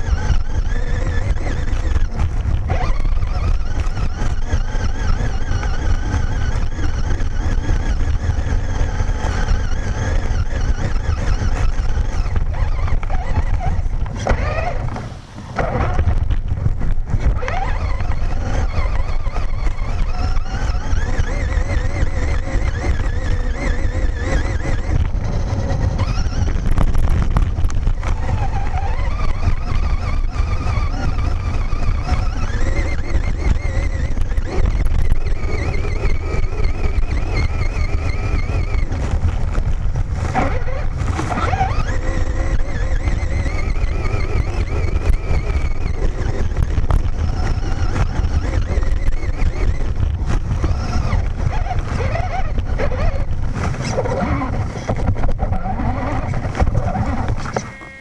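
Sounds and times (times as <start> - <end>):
electric motor whining: 0.0 - 58.0.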